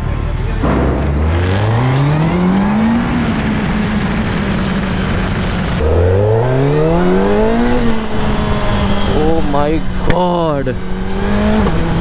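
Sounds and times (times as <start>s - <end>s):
motorcycle engine accelerating: 0.6s - 12.0s.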